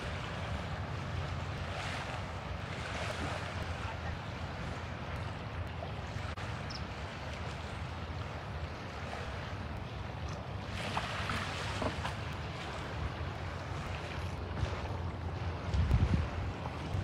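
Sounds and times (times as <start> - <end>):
small waves washing on beach: 0.0 - 17.0
wind rumbling on microphone: 0.0 - 17.0.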